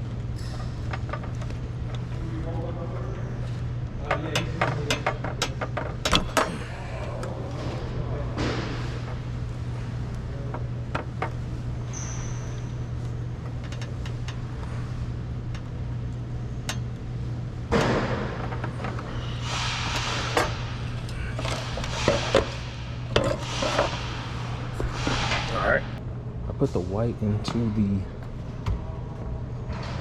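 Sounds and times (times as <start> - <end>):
clicks and rustling of wiring work: 0.0 - 6.6, 7.2 - 17.1, 17.7 - 25.6
steady low hum: 0.0 - 30.0.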